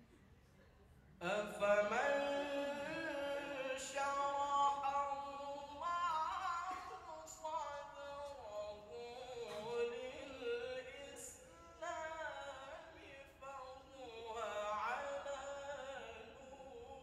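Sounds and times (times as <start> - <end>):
man reciting melodically: 1.2 - 17.0.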